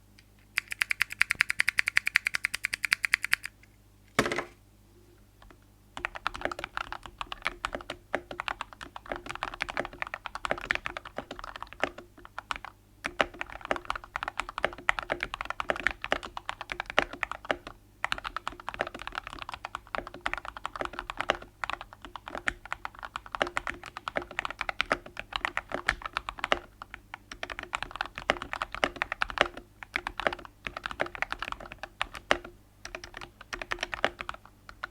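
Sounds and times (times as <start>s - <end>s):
mechanical keyboard typing: 0.5s - 3.5s, 6.0s - 34.9s.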